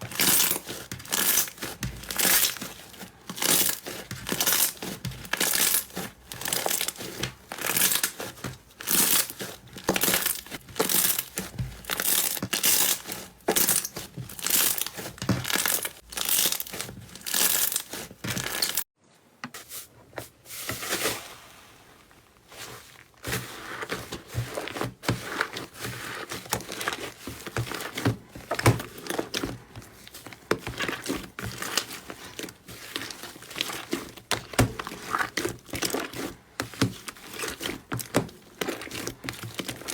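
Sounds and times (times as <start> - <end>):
slime squishing and crackling: 0.0 - 18.9, 21.9 - 39.9.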